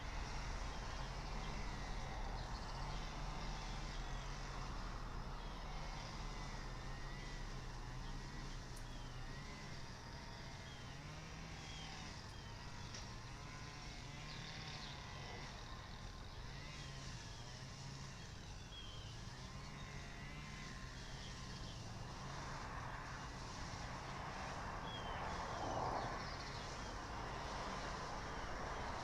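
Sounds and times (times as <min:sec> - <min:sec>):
distant road traffic hum: 0:00.0 - 0:29.0.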